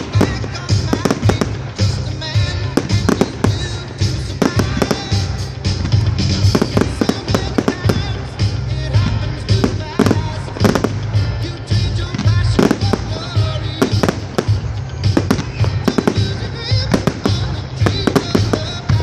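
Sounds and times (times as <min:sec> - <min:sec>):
fireworks bangs and crackling: 0:00.0 - 0:19.0
music playing: 0:00.0 - 0:19.0.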